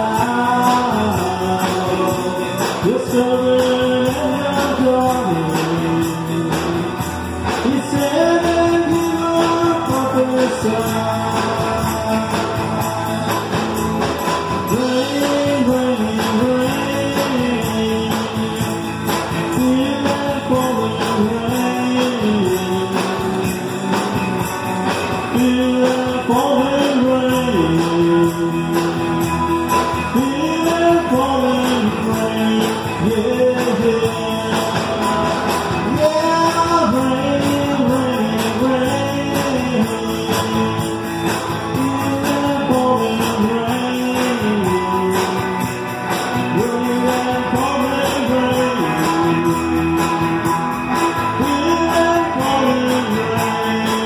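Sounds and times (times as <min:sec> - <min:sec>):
drum kit beat: 0:00.0 - 0:54.0
electric guitars: 0:00.0 - 0:54.0
man singing: 0:00.0 - 0:54.0.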